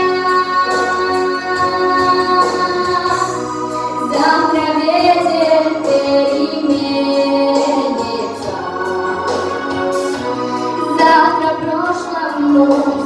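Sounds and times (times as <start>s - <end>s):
instrumental backing: 0.0s - 13.0s
voices singing together: 0.0s - 13.0s.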